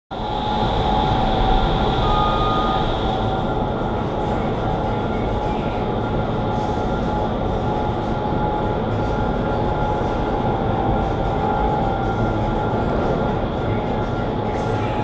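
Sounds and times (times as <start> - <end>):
constant whining tones: 0.2 - 15.0
fan-driven air rushing: 0.2 - 15.0.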